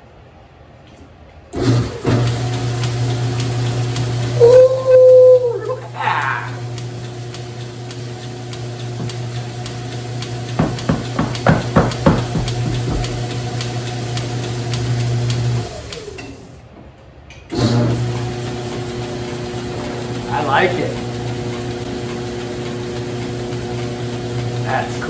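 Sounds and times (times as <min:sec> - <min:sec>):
electric motor humming: 0:01.6 - 0:16.5, 0:17.6 - 0:25.0.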